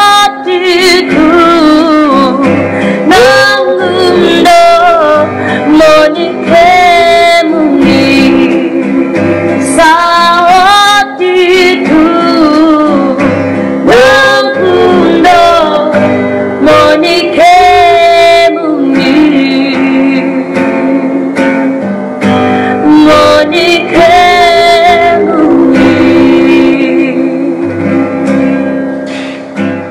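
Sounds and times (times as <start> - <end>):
woman singing: 0.0 - 21.5, 22.7 - 28.0
guitar accompaniment: 0.0 - 29.9.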